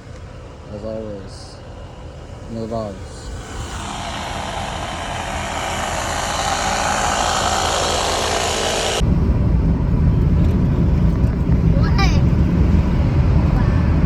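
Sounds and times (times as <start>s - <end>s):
road and wind noise: 0.0s - 14.0s
low rumble: 1.8s - 14.0s.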